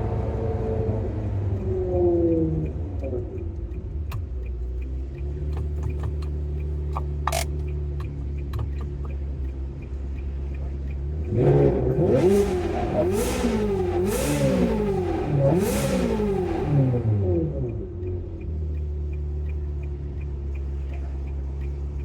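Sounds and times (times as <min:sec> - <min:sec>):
car engine idling and revving: 0:00.0 - 0:22.0
light clicks: 0:00.9 - 0:12.8, 0:13.5 - 0:22.0.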